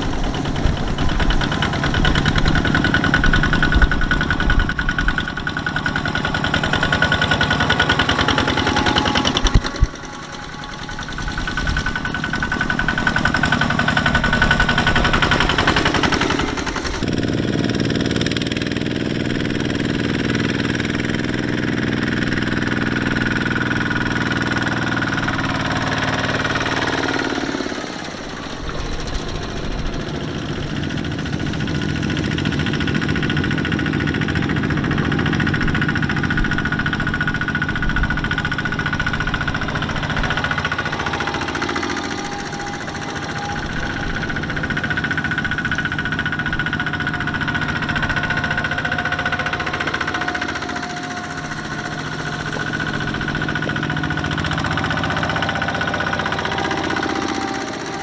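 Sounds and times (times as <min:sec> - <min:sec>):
diesel tractor engines running: 0:00.0 - 0:58.0.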